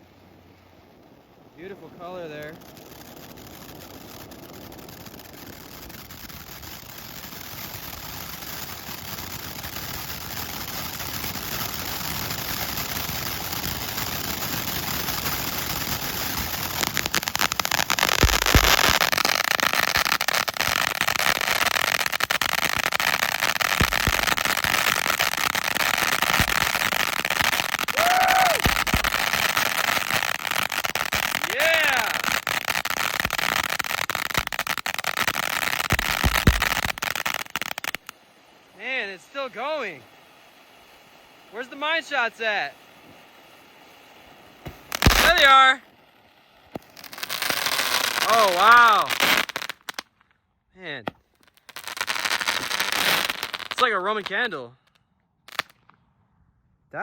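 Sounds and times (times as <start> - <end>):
firework fountain hissing: 0.0 - 55.9
firework crackle: 0.0 - 56.2.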